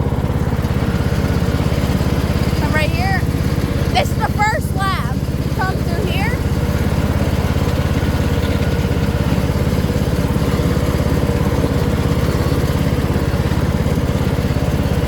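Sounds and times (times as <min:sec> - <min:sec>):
riding lawn mower engine: 0:00.0 - 0:15.0.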